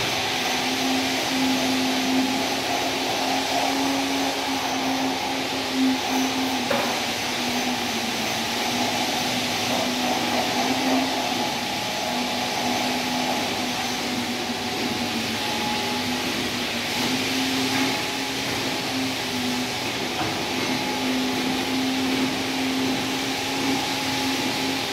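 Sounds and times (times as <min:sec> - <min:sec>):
machine motor whirring drone: 0:00.0 - 0:24.9.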